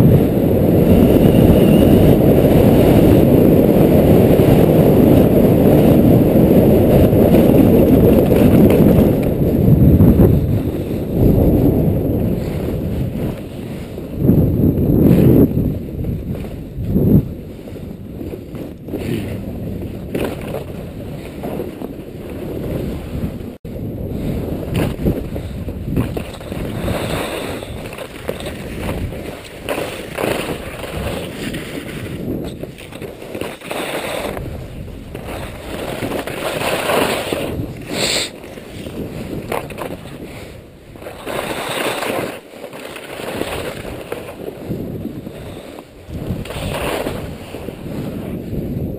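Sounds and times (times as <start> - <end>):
skis scraping over snow: 0.0 - 48.9
wind rumble on microphone: 0.0 - 48.9.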